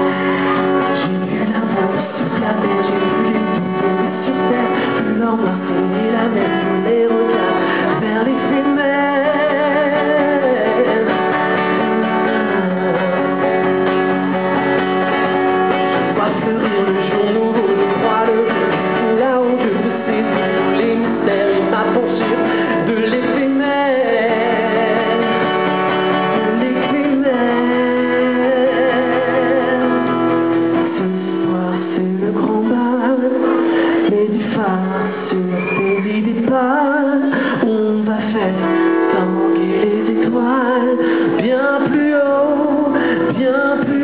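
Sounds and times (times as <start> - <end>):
man singing into microphone: 0.0 - 14.4, 15.9 - 44.0
acoustic guitar strumming: 0.0 - 44.0.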